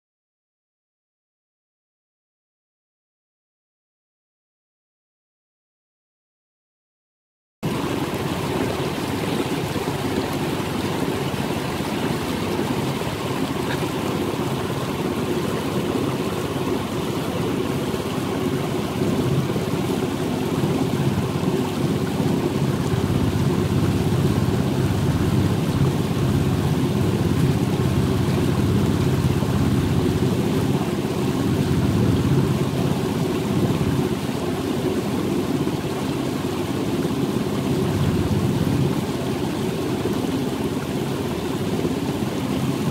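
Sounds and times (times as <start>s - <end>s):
water rushing along hull: 7.6s - 42.9s
boat motor drone: 7.7s - 42.9s.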